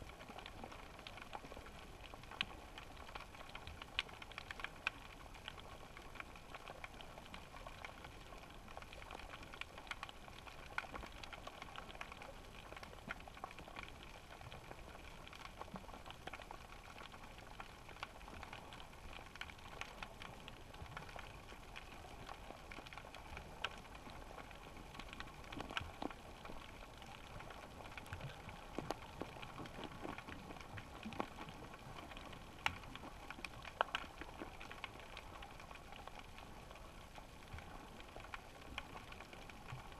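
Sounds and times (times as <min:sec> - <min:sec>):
underwater clicks and crackles: 0:00.0 - 0:39.9.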